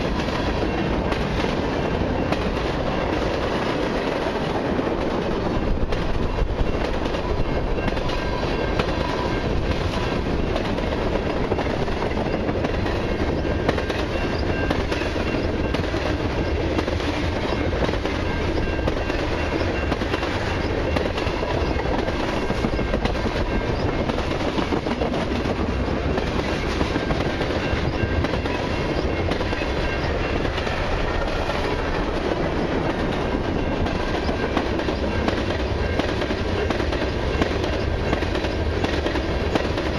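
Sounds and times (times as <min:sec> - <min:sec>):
faint ringing from wheels: 0:00.0 - 0:39.9
freight train wheels rumbling: 0:00.0 - 0:39.9.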